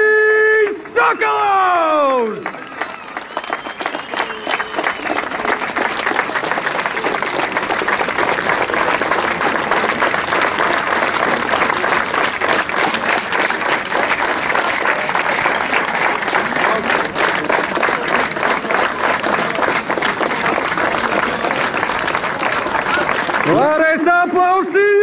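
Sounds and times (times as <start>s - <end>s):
spectators applauding: 0.0s - 25.0s.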